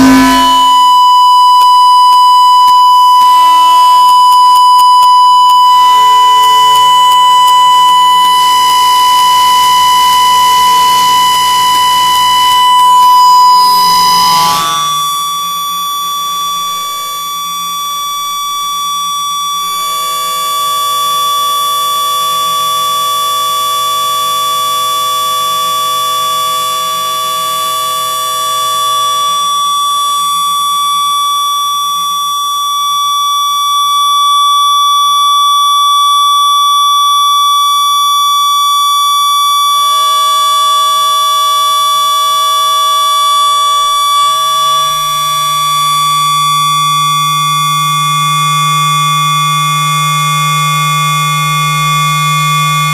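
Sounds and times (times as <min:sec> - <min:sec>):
lower electronic tones: 0:00.0 - 0:30.8, 0:39.8 - 0:52.9
loud high electronic tone: 0:00.0 - 0:35.2, 0:38.7 - 0:49.7.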